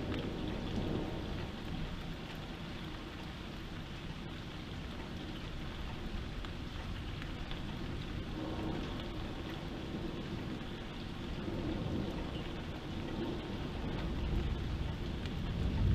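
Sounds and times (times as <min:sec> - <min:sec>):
heavy rain pouring: 0:00.0 - 0:15.9.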